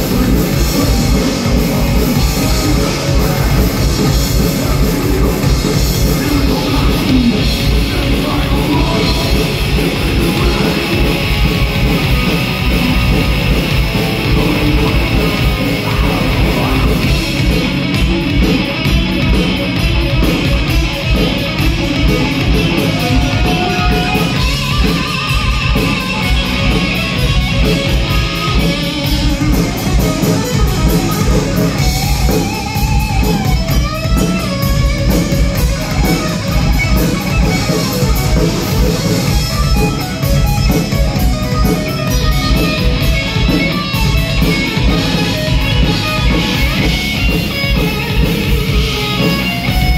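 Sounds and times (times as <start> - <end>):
lead guitar bending notes: 0.0 - 49.9
live heavy metal band: 0.0 - 49.9.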